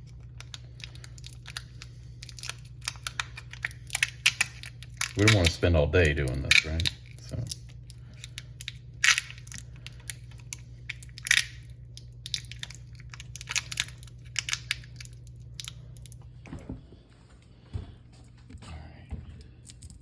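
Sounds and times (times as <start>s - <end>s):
masking tape crackling: 0.0s - 16.2s
steady low hum: 0.0s - 20.0s.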